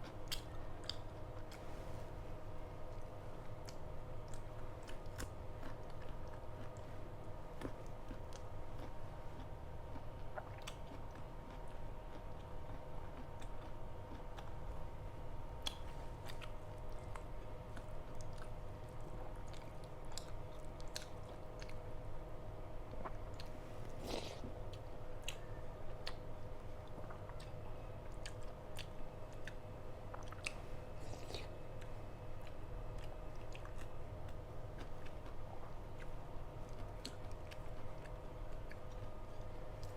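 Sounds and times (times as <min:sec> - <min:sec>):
person chewing: 0:00.0 - 0:01.8, 0:02.9 - 0:14.8, 0:15.6 - 0:21.8, 0:22.9 - 0:39.9
faint hum: 0:00.0 - 0:39.9.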